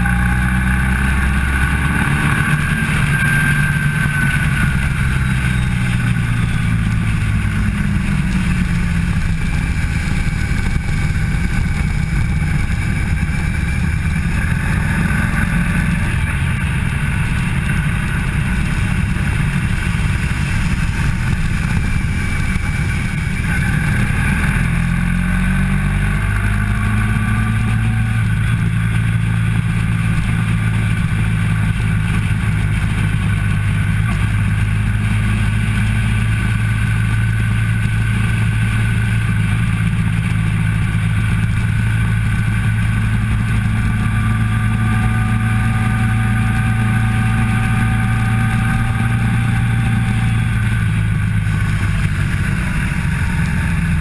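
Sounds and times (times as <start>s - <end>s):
motorcycle engine running under load: 0.0s - 54.0s.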